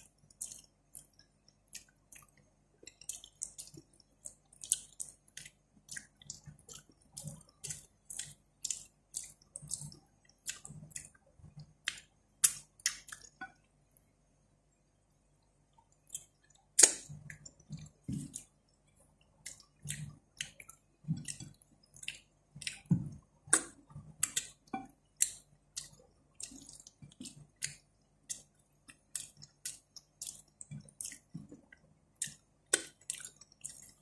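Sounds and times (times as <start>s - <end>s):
wet chewing and lip-smacking: 0.0s - 13.7s, 15.7s - 34.0s.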